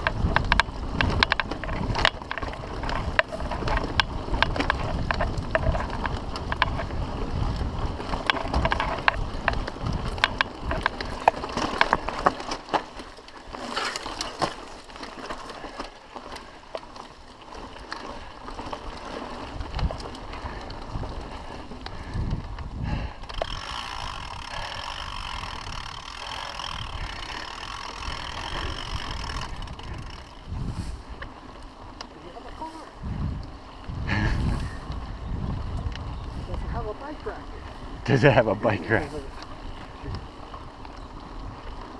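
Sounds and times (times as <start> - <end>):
bike frame rattling and clicking: 0.0 - 41.9.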